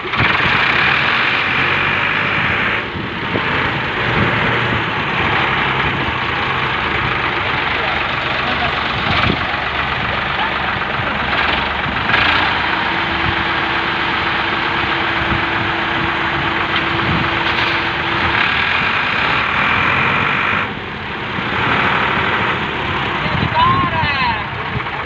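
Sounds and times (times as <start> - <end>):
tractor diesel engines under load: 0.0 - 25.0.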